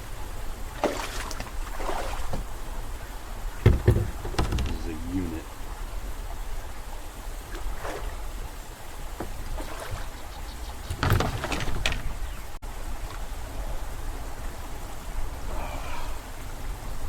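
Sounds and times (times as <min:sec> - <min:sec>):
water lapping against boat hull: 0:00.7 - 0:14.8.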